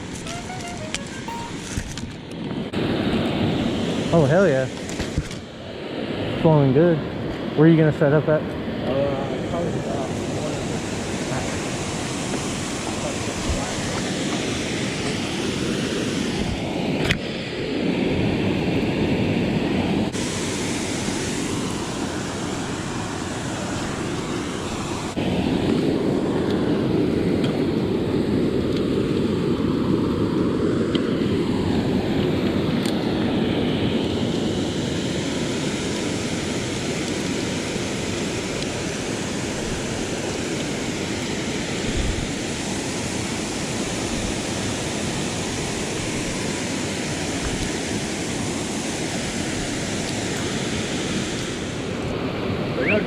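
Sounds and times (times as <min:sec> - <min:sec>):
creek water rushing: 0:00.0 - 0:01.8, 0:08.6 - 0:53.0.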